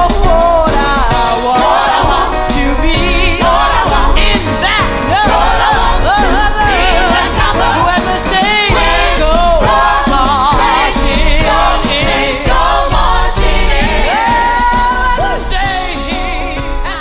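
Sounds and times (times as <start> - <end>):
drums keeping a beat: 0.0 - 17.0
gospel choir singing: 0.0 - 17.0
keyboard: 0.0 - 17.0.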